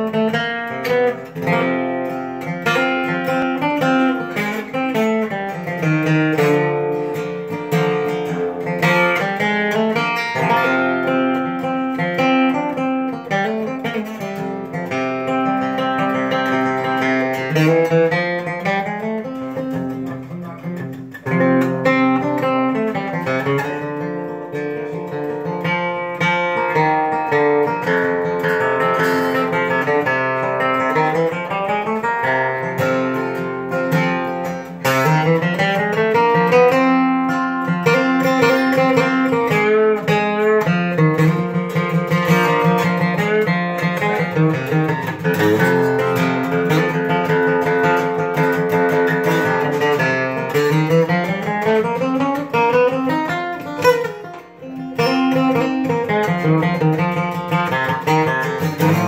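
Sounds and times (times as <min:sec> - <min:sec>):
acoustic guitar picked notes and chords: 0:00.0 - 0:59.0.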